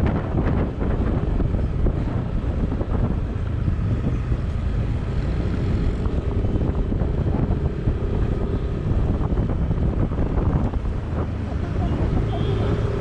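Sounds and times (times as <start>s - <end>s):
engine and road rumble: 0.0s - 13.0s
wind buffeting microphone: 0.0s - 13.0s.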